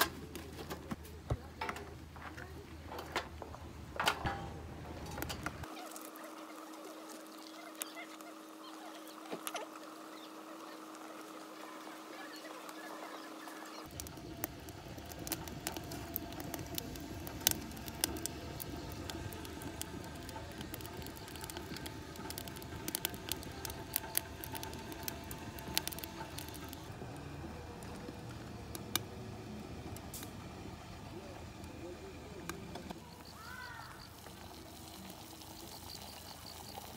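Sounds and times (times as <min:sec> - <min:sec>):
wood crackling and popping: 0:00.0 - 0:36.9.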